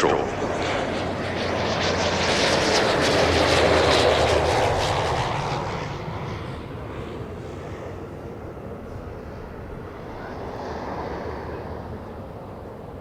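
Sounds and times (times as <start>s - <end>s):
turboprop plane passing by: 0.0s - 13.0s.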